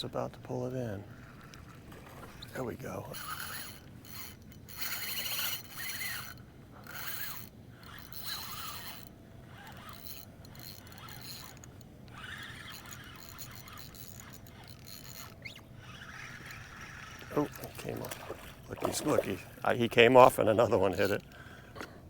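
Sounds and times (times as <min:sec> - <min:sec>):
fishing reel cranking: 0:00.2 - 0:21.8.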